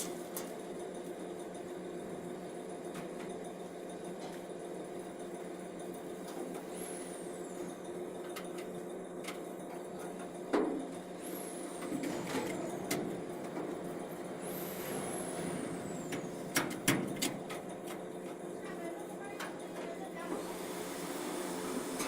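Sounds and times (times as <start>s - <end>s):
lathe machine hum: 0.0s - 16.6s, 17.3s - 22.0s.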